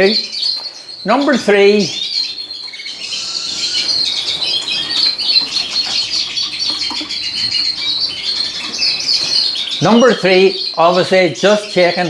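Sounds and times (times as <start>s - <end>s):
small cage birds twittering: 0.0s - 12.0s.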